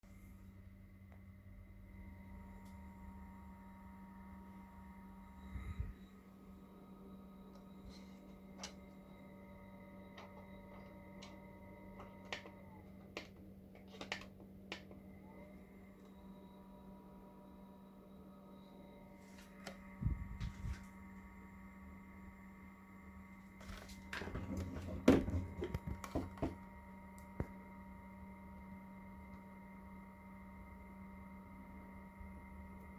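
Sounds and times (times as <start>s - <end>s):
small fan motor humming: 0.2s - 32.9s.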